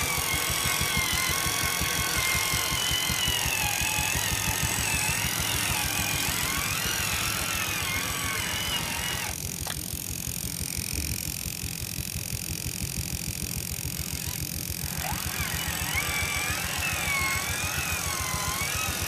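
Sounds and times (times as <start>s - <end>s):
toy truck electric motor whine: 0.0s - 19.0s.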